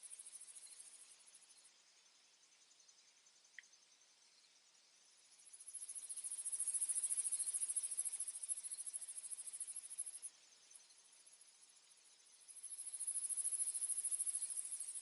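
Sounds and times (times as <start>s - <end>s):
lower pulsing insect song: 0.0s - 15.0s.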